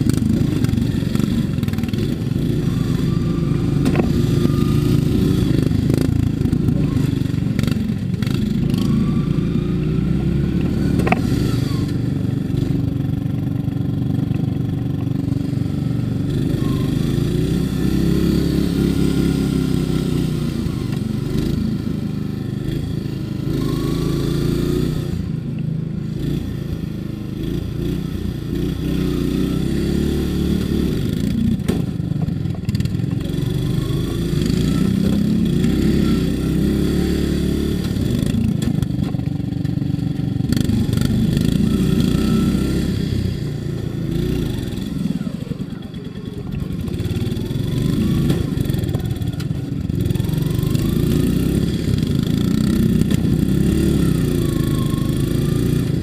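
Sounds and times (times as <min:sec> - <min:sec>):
lawn mower engine revving: 0:00.0 - 0:56.0.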